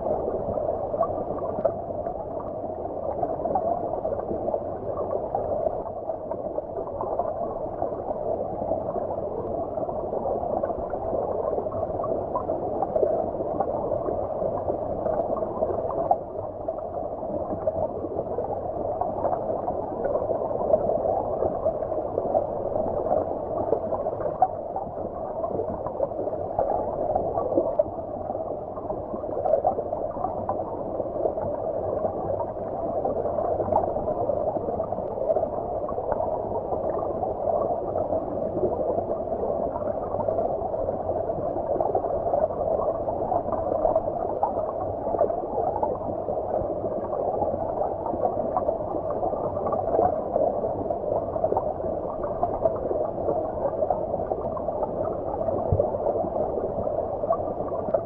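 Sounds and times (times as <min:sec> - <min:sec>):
muffled stream flowing underwater: 0:00.0 - 0:58.0.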